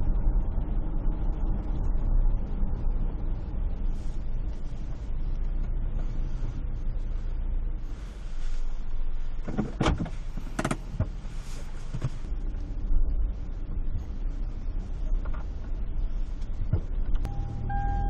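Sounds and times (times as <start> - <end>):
car rumble inside cabin: 0.0 - 18.0.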